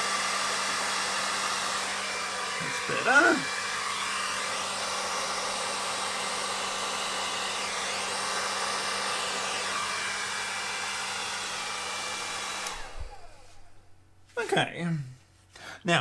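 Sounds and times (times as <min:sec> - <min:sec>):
blow dryer running: 0:00.0 - 0:14.0.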